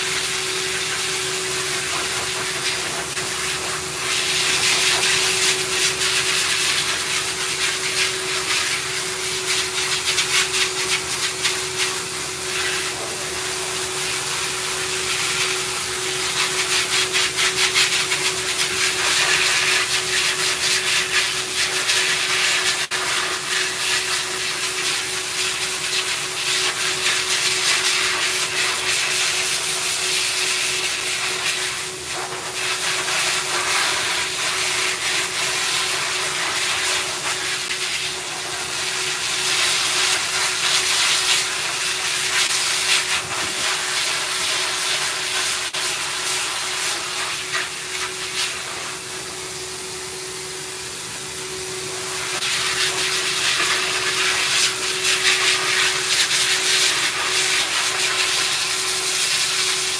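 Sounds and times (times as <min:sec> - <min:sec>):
grooming dryer air rushing: 0:00.0 - 0:59.9.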